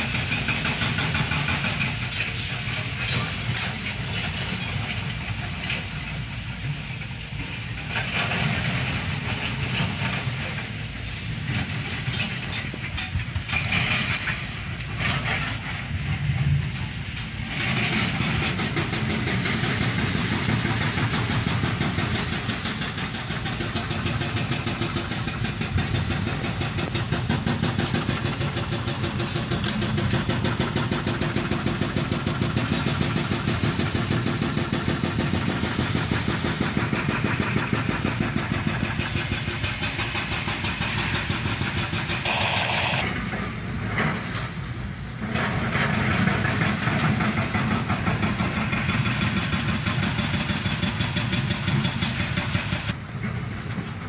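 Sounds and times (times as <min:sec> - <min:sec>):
engine running with fast pulse: 0:00.0 - 0:44.3.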